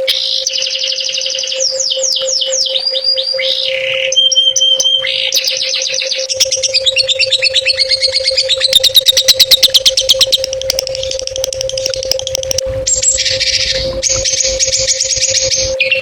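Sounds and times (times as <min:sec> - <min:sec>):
songbird chirping and trilling: 0:00.0 - 0:16.0
steady low hum: 0:00.0 - 0:16.0.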